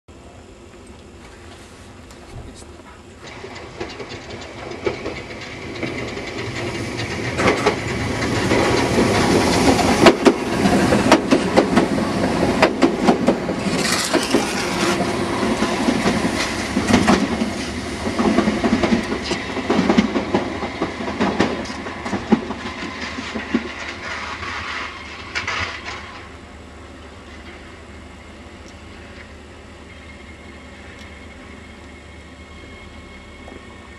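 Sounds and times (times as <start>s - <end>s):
electric train passing: 0.1s - 33.9s.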